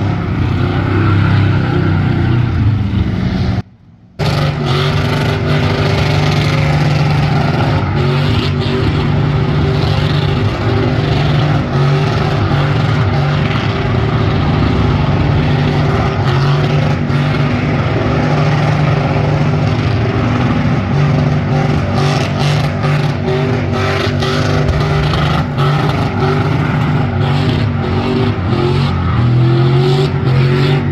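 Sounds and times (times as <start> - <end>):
truck engine running loud: 0.0 - 30.9.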